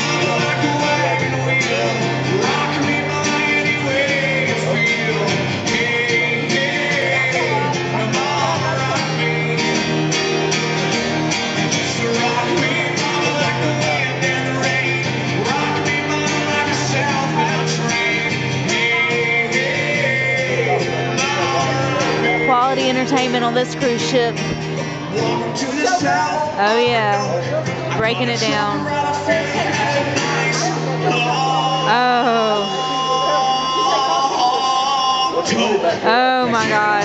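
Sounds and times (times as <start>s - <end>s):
live band and singers performing: 0.0s - 37.0s.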